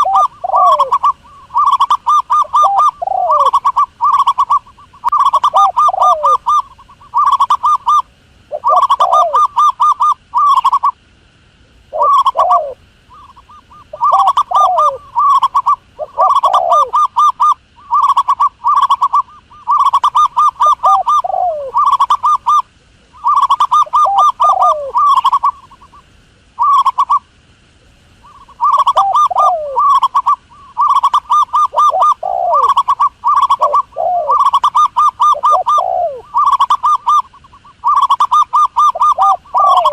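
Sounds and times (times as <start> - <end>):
dove cooing: 0.0 - 11.0, 11.8 - 27.3, 28.2 - 39.9.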